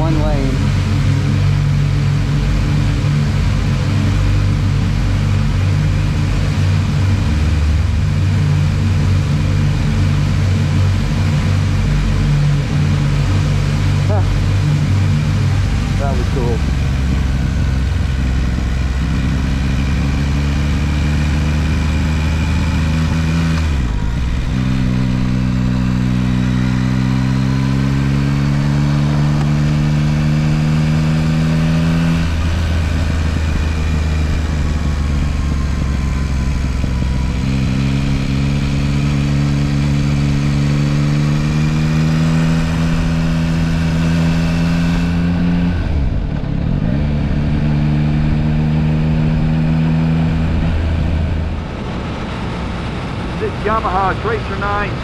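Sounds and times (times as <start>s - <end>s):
motorcycle engine: 0.0s - 55.0s
wind and road noise: 0.0s - 55.0s.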